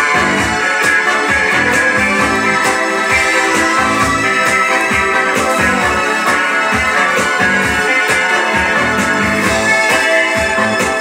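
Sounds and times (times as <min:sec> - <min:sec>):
keyboard pop music from a record: 0:00.0 - 0:11.0.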